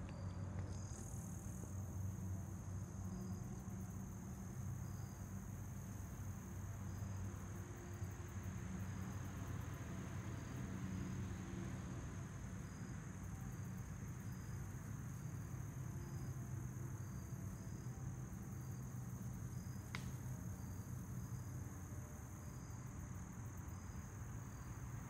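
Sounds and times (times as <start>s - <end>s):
crickets trilling: 0.1s - 25.0s.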